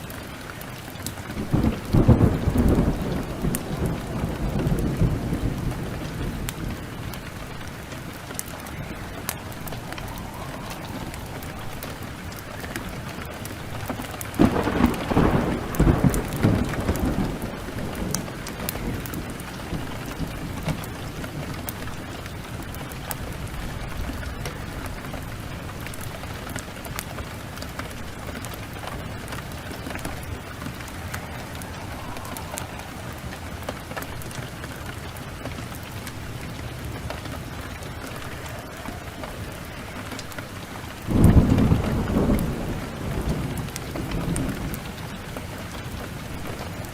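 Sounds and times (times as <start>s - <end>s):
steady rain: 0.0s - 46.9s
thunder rolling: 0.0s - 46.9s
wood fire crackling: 0.0s - 46.9s.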